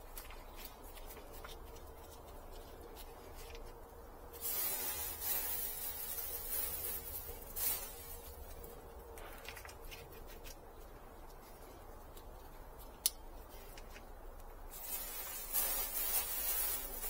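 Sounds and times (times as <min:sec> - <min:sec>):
plastic bag and mulch rustling: 0:00.0 - 0:17.0.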